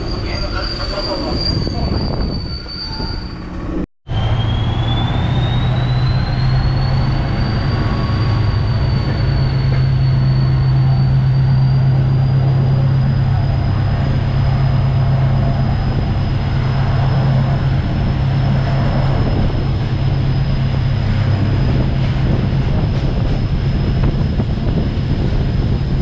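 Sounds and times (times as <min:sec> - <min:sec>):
high wheel squeal: 0:00.0 - 0:26.0
train running noise: 0:00.0 - 0:26.0.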